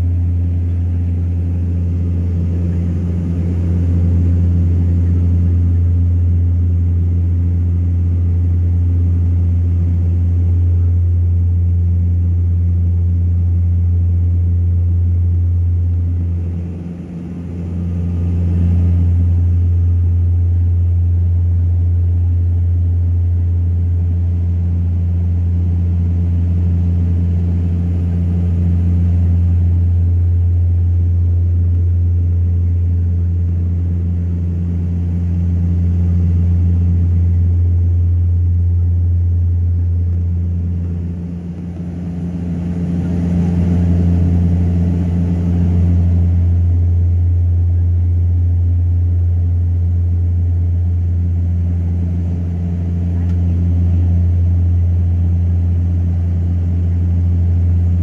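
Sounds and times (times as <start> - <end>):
plane engines droning: 0.0 - 58.0.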